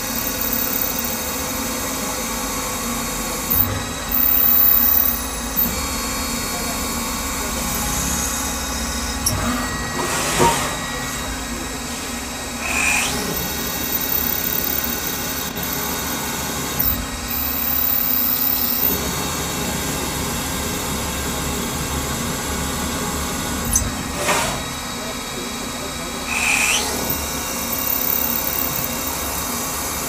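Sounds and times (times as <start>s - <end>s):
milling machine cutting metal: 0.0s - 30.0s.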